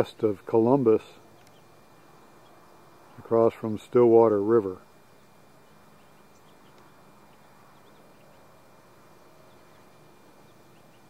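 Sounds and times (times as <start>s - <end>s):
low steady background: 0.0s - 11.0s.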